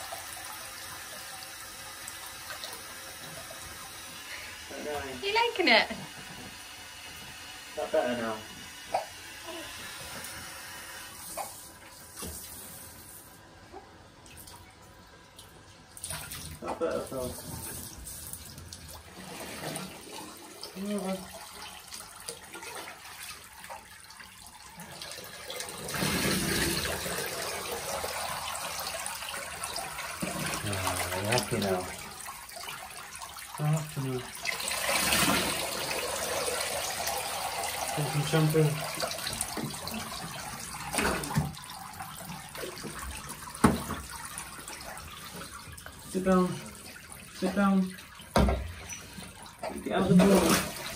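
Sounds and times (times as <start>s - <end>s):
water running into bathtub: 0.0s - 50.9s.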